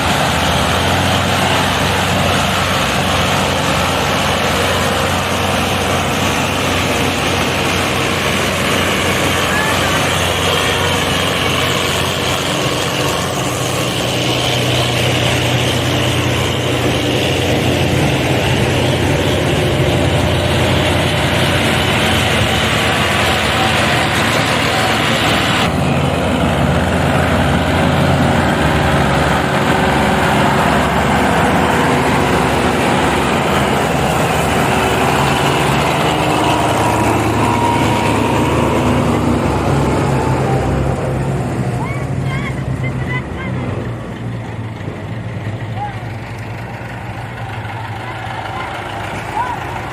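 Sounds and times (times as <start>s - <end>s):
tractor engines under heavy load: 0.0s - 49.9s.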